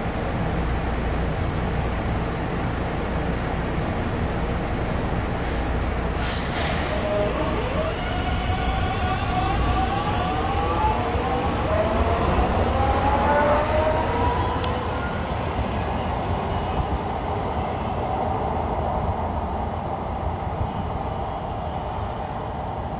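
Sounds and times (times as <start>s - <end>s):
train rolling rumble: 0.0s - 22.9s.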